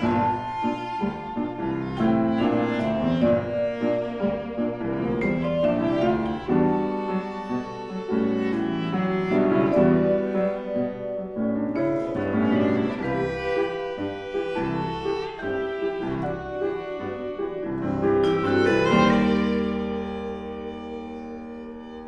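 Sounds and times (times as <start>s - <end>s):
bowed viola: 0.0s - 22.0s
piano notes and chords: 0.0s - 22.0s.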